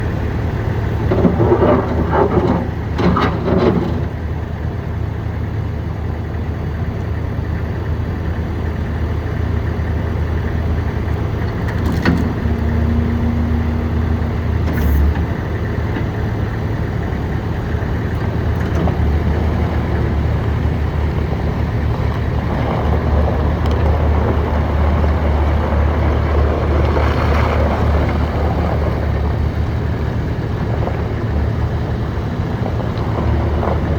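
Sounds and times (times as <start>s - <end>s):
loader engine hum: 0.0s - 33.9s.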